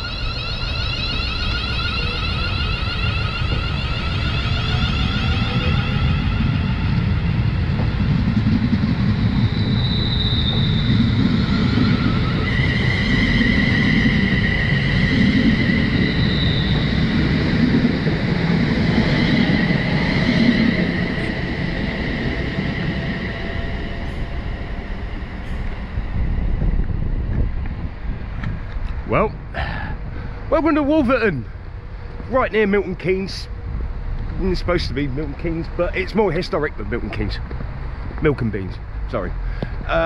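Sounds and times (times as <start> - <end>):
high whining tones: 0.0 - 40.0
train rumbling: 0.0 - 40.0.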